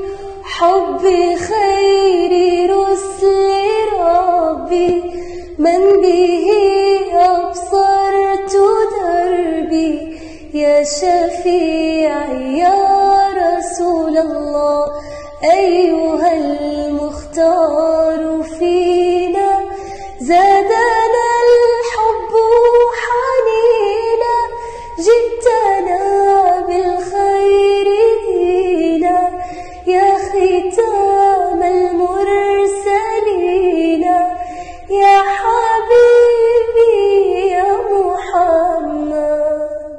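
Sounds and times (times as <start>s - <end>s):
girl singing religious song: 0.0s - 39.9s.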